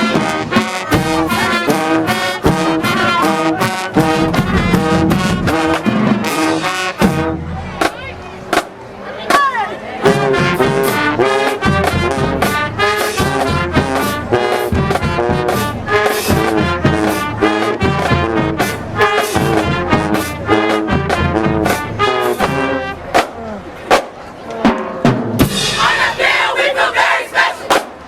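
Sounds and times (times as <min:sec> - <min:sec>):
brass playing punchy notes: 0:00.0 - 0:07.5, 0:10.0 - 0:23.4, 0:25.6 - 0:27.8
steady drum beat: 0:00.0 - 0:08.7, 0:10.1 - 0:23.3, 0:23.9 - 0:27.9.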